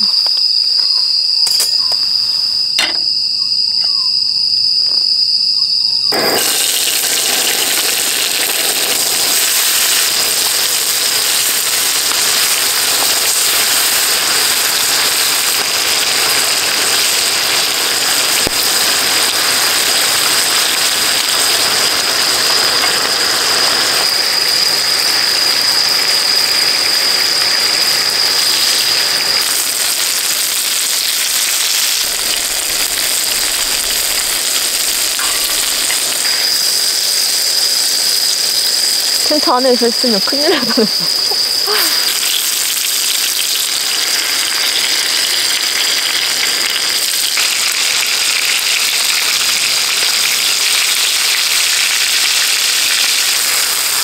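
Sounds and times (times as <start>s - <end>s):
cricket trill: 0.0s - 54.0s
meat sizzling on a griddle: 6.1s - 54.0s.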